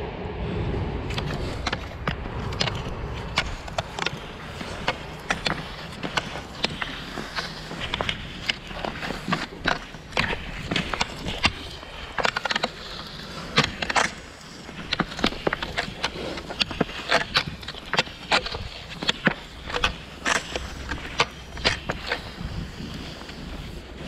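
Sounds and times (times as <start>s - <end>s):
skis sliding on snow: 1.1s - 24.0s.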